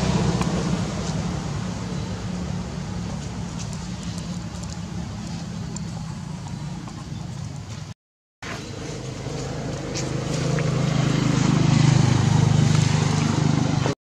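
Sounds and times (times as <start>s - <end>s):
motor engine humming: 0.0s - 14.0s.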